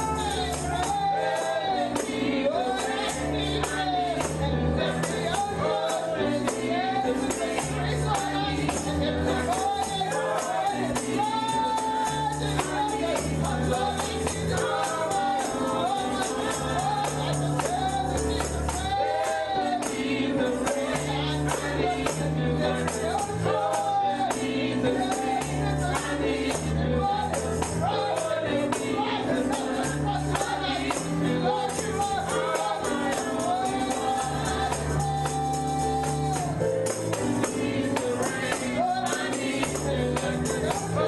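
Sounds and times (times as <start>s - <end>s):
tambourine beat: 0.0s - 41.0s
voices singing gospel: 0.0s - 41.0s.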